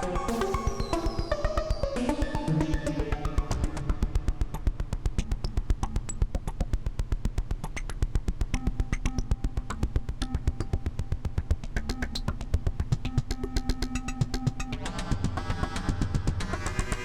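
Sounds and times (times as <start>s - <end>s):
fast pulse of clicking synth notes: 0.0s - 17.0s
steady low synth bass: 2.5s - 17.0s.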